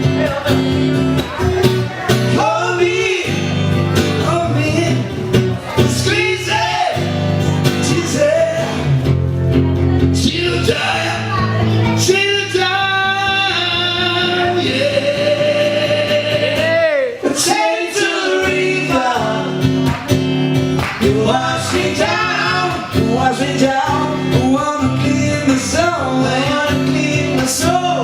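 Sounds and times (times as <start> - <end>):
person singing: 0.0 - 9.0, 9.9 - 19.8, 20.9 - 28.0
guitar: 0.0 - 28.0.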